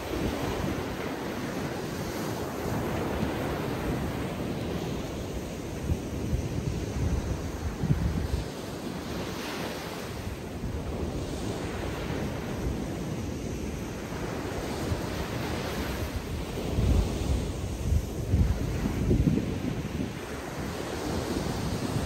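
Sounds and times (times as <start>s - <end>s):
ocean surf washing onto beach: 0.0s - 22.0s
wind buffeting microphone: 0.0s - 22.0s.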